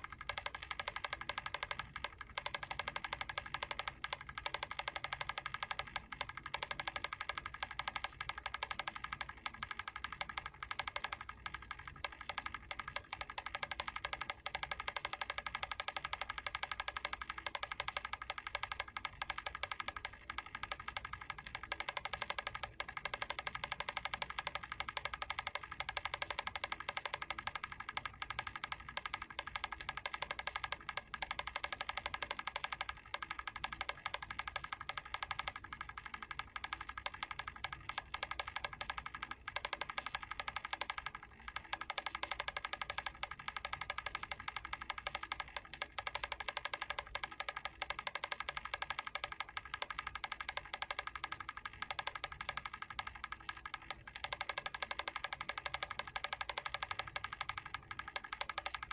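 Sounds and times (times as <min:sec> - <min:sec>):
timer switch ticking: 0:00.0 - 0:58.9.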